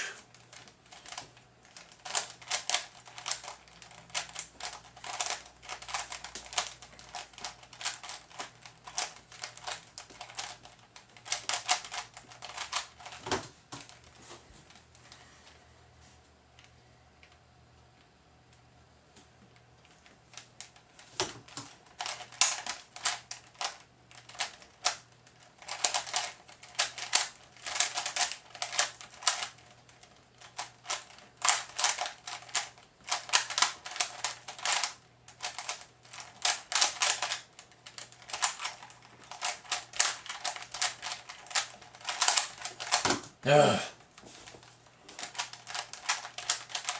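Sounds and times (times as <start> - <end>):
speedcube layers clicking: 0.3 - 13.2, 20.3 - 43.2, 45.1 - 46.9.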